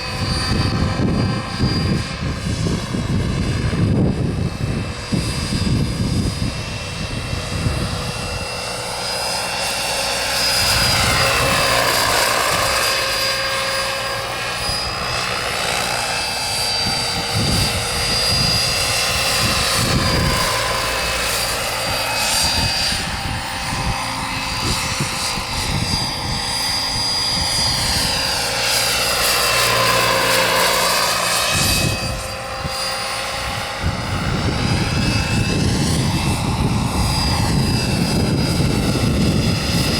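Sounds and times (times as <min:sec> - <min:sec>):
jet turbine whining: 0:00.0 - 0:39.9
rotor rushing: 0:04.9 - 0:39.9.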